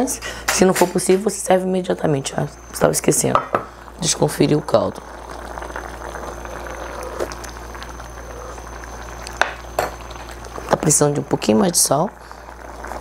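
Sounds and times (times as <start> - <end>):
stew bubbling in a pan: 2.0 - 13.0.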